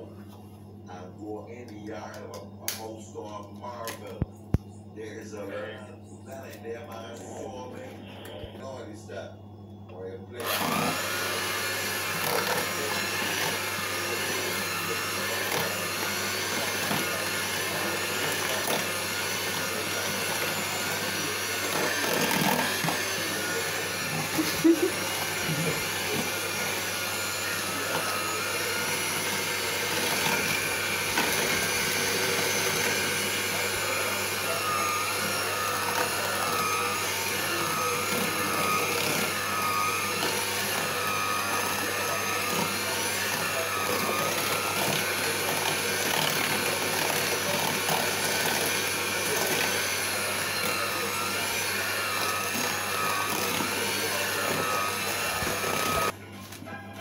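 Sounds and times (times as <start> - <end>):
electric hand mixer whining: 9.9 - 56.3.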